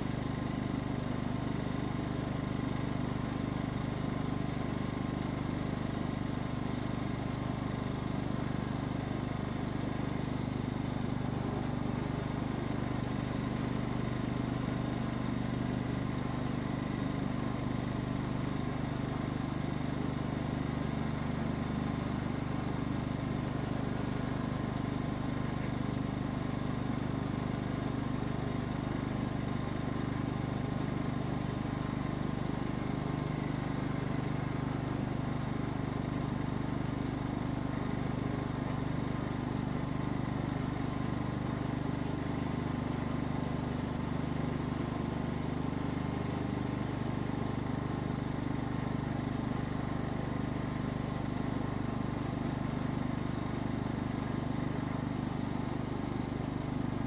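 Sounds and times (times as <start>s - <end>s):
lawn tractor engine running: 0.0s - 57.0s.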